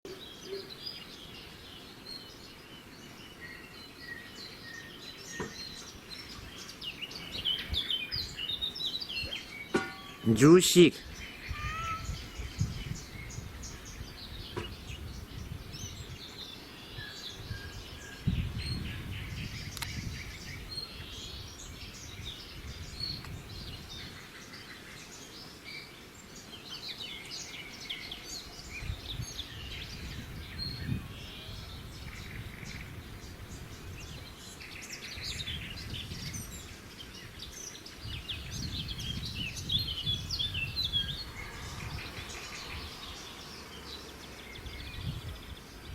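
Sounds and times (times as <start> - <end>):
small birds chirping: 0.1 - 45.9.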